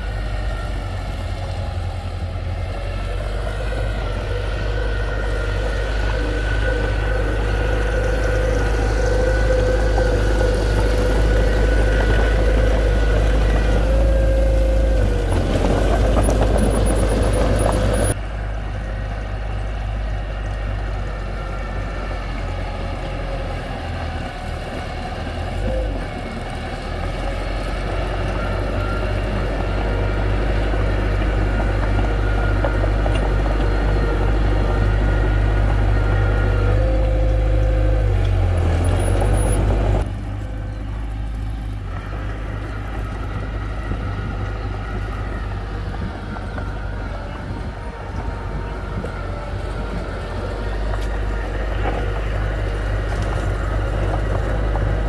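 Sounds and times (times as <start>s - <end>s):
heavy machinery diesel engines rumbling: 0.0s - 55.0s.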